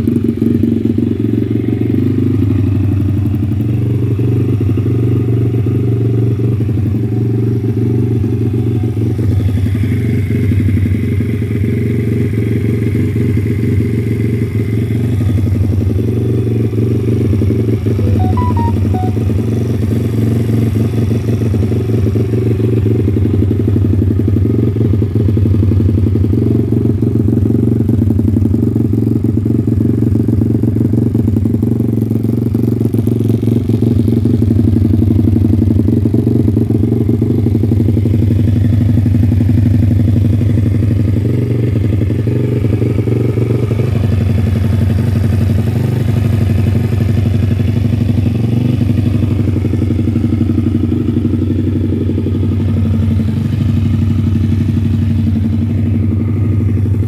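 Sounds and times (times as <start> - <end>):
motorbike engine idling: 0.0 - 57.0.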